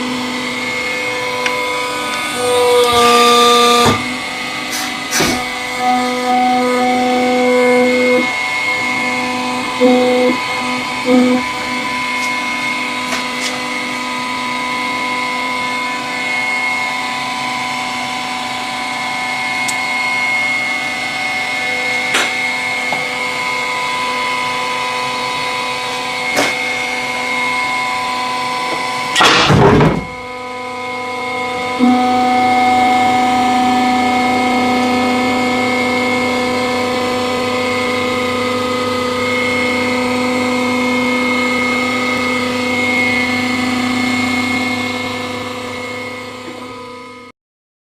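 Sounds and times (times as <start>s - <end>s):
hydraulic press motor humming: 0.0s - 47.3s.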